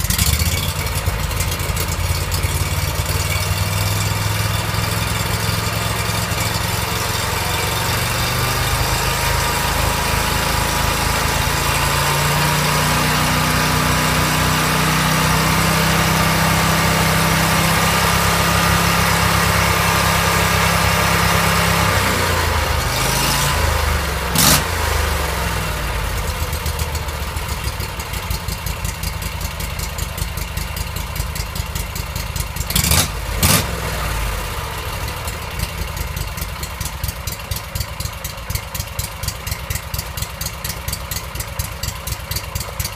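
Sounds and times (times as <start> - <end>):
engine revving and idling: 0.0 - 42.9.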